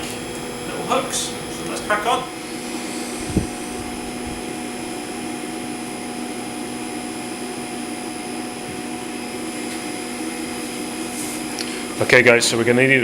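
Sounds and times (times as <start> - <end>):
motor-driven machine humming: 0.0 - 13.0.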